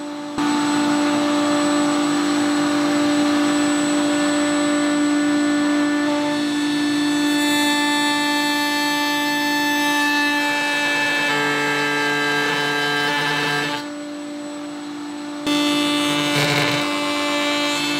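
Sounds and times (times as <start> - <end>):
router whining: 0.0 - 17.9.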